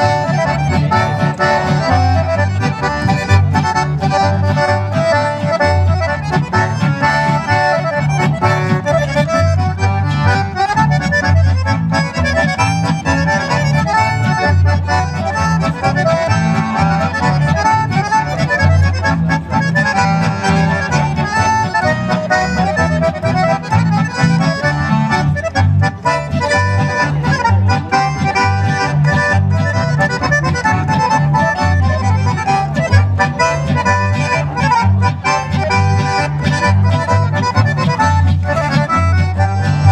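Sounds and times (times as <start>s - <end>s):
accordions playing: 0.0s - 39.9s
acoustic guitar: 0.0s - 39.9s
double bass: 0.0s - 39.9s.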